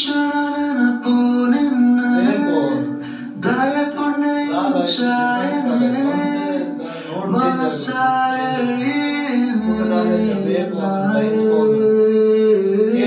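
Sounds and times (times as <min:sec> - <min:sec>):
man singing: 0:00.0 - 0:13.0
music: 0:00.0 - 0:13.0.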